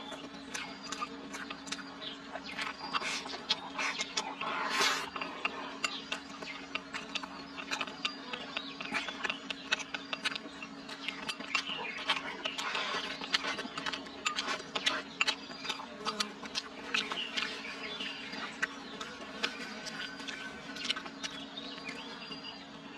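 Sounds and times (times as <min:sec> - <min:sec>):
chewing and lip-smacking: 0:00.0 - 0:22.6.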